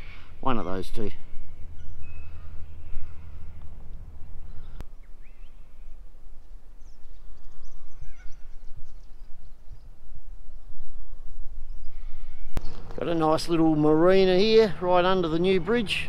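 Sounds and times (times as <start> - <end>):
wind rumbling on microphone: 0.0 - 15.8
birds chirping: 0.0 - 16.0.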